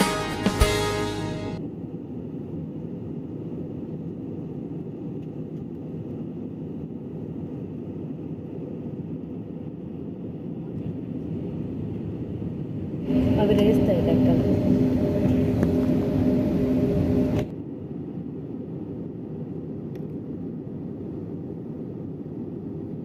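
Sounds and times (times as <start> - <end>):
jet cabin engine rumble: 1.6 - 23.0.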